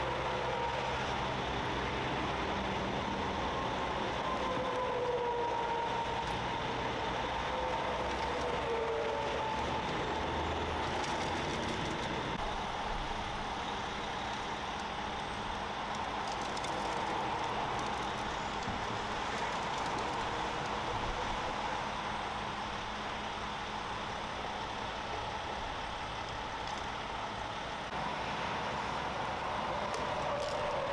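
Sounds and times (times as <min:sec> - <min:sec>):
heavy truck engines running: 0:00.0 - 0:30.9.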